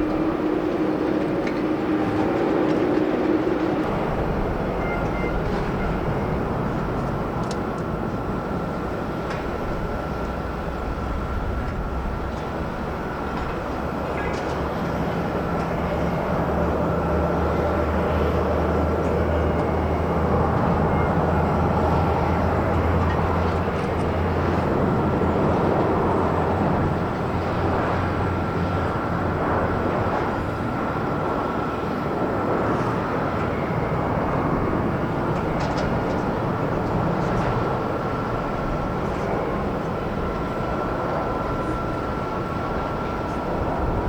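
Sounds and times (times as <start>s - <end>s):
high engine whine: 0.0s - 44.0s
jet engine rumble: 0.0s - 44.0s.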